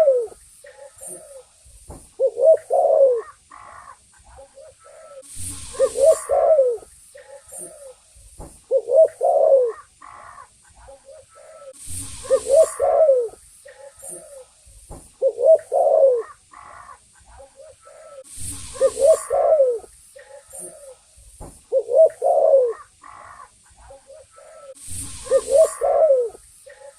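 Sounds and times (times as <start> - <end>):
dove cooing: 0.0 - 1.6, 2.2 - 8.0, 8.7 - 14.5, 15.2 - 21.0, 21.7 - 26.9.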